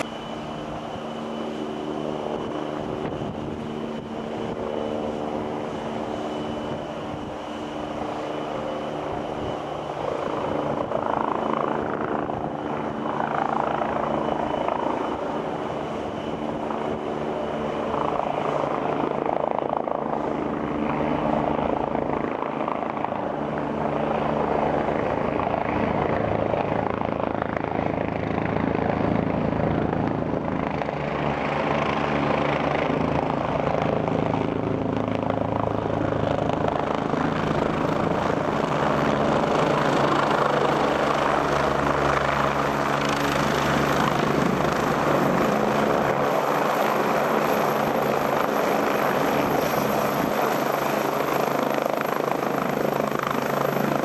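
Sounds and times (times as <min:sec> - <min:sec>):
helicopter approaching and landing: 0:00.0 - 0:54.0.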